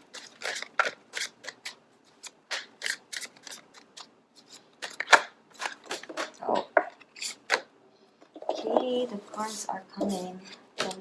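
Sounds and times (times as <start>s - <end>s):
cards being shuffled: 0.0s - 7.7s, 8.4s - 11.0s.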